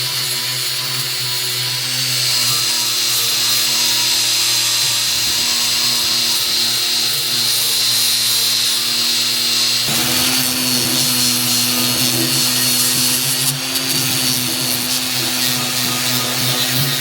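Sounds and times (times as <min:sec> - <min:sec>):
power tool grinding iron: 0:00.0 - 0:17.0.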